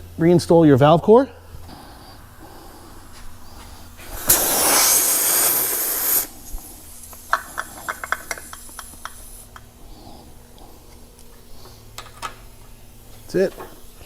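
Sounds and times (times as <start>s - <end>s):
air hissing from tire valve: 1.4s - 13.3s.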